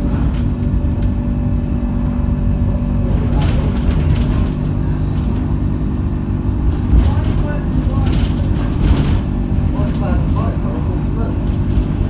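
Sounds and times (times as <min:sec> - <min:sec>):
bodywork rattles: 0:00.0 - 0:12.0
bus diesel engine running: 0:00.0 - 0:12.0.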